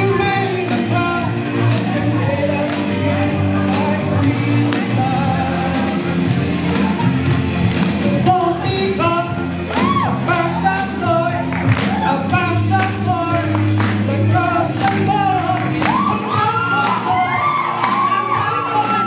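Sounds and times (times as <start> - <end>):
band backing: 0.0 - 19.0.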